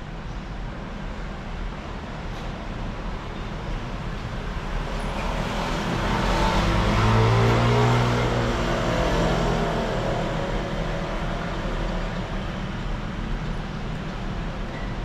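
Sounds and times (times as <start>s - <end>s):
steady traffic noise: 0.0s - 15.0s.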